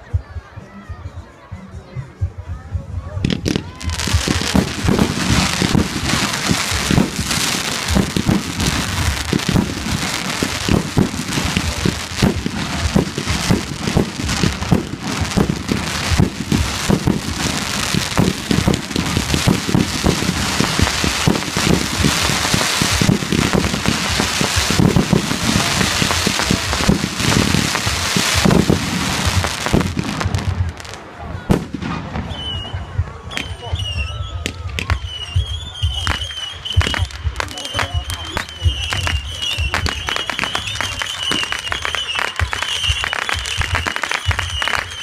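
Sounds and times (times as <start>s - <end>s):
fireworks crackling: 3.2s - 45.0s.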